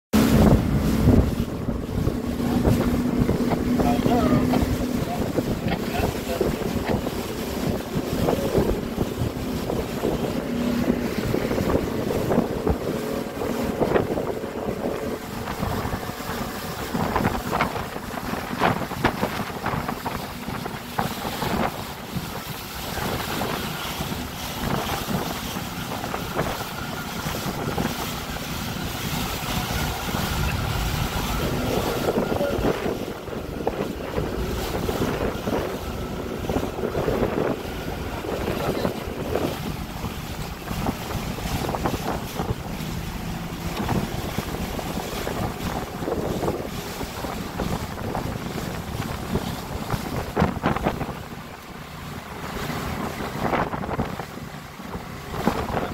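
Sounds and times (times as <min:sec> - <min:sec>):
outboard motor running: 0:00.1 - 0:55.9
sharp water splashes: 0:00.1 - 0:55.9
water slapping against hull: 0:00.1 - 0:55.9
wind buffeting microphone: 0:00.1 - 0:55.9.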